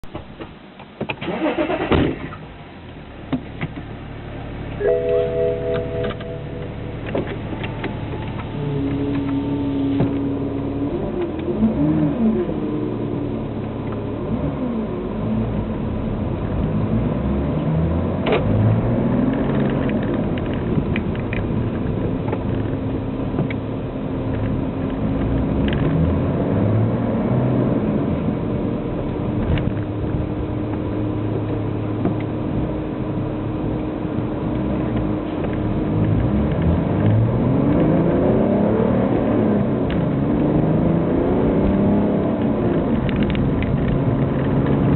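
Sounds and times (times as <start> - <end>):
car exhaust drone: 0.0 - 44.9.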